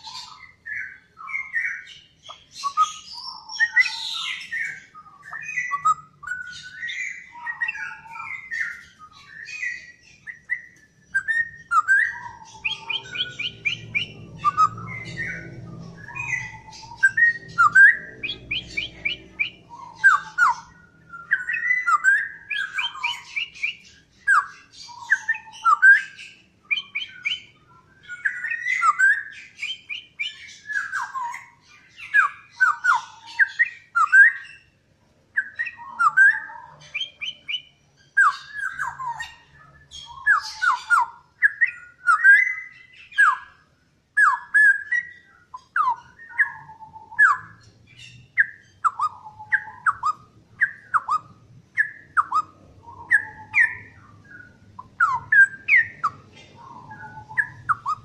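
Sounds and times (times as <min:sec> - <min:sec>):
bird whistling song: 0:00.0 - 0:58.0.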